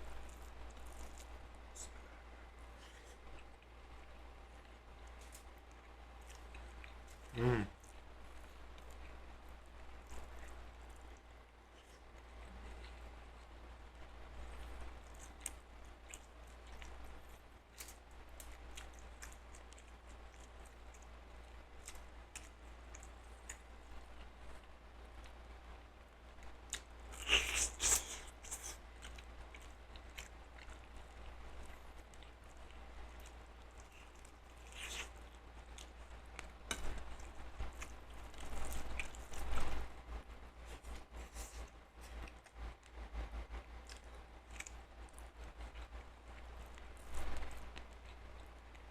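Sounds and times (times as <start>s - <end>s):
chewing food: 0.0s - 48.9s
steady low hum: 0.0s - 48.9s.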